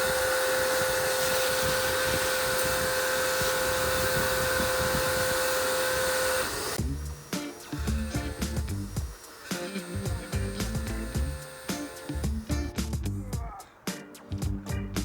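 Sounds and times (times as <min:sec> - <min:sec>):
pressure washer spraying: 0:00.0 - 0:12.8.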